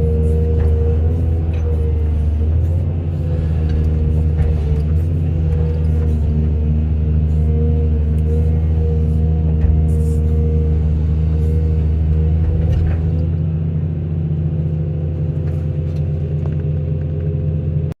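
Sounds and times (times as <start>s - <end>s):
heavy diesel engine rumbling: 0.0s - 18.0s.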